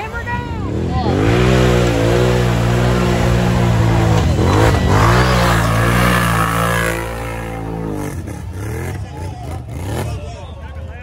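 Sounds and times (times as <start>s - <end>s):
atv engine revving: 0.0s - 10.8s.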